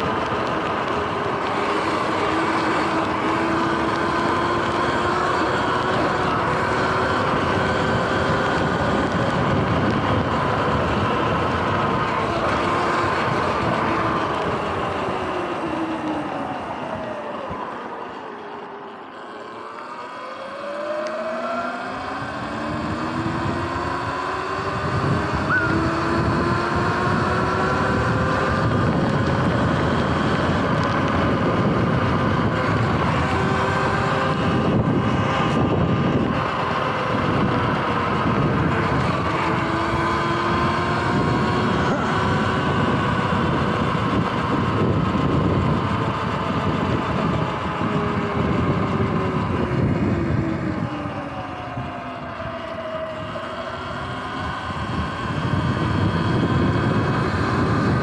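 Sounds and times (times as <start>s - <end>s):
wind rushing over microphone: 0.0s - 17.7s, 20.6s - 58.0s
electric motor whining: 0.0s - 58.0s.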